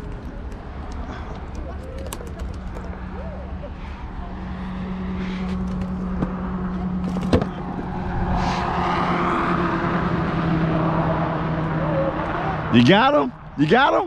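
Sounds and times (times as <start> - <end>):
car passing: 2.6 - 14.0.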